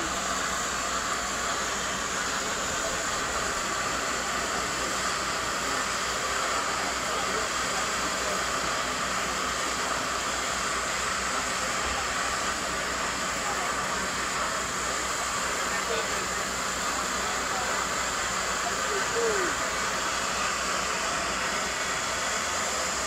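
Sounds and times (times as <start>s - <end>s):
gas hissing under pressure: 0.0s - 23.0s.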